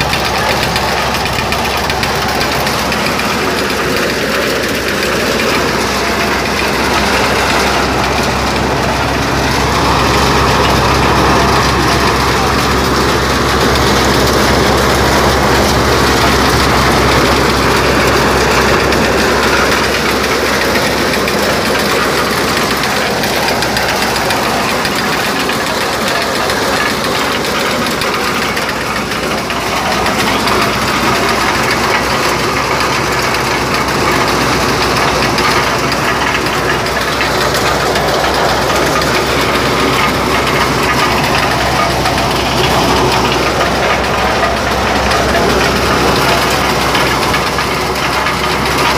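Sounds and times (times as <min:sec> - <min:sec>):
corn sheller rushing noise: 0:00.0 - 0:48.9
small engine droning: 0:00.0 - 0:48.9.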